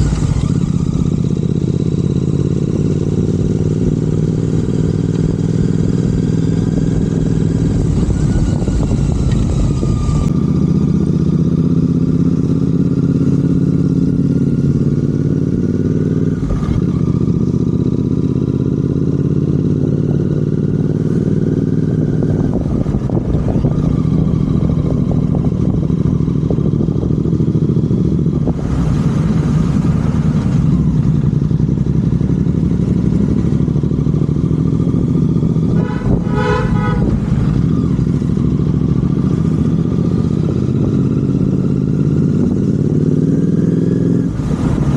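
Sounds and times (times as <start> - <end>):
motorcycle engine while riding: 0.0 - 44.9.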